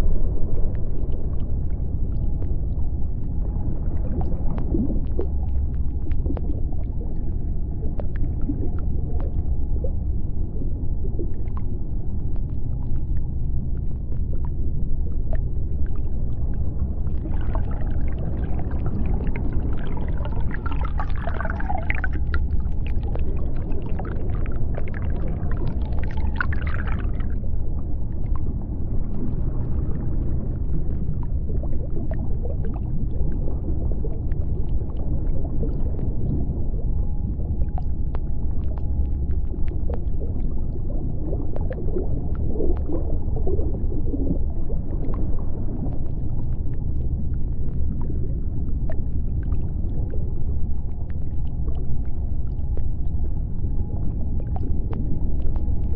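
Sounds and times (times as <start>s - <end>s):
low underwater rumble: 0.0s - 55.9s.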